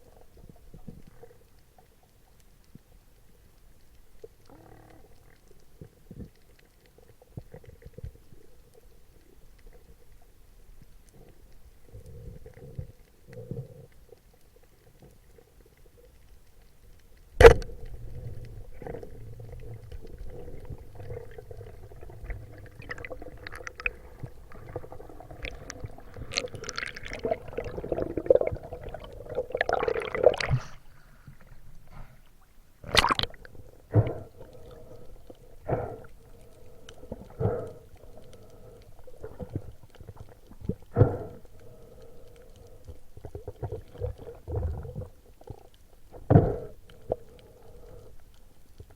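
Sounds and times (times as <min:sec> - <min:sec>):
faint steady hum: 0:00.0 - 0:48.9
gurgling water underwater: 0:00.0 - 0:48.9.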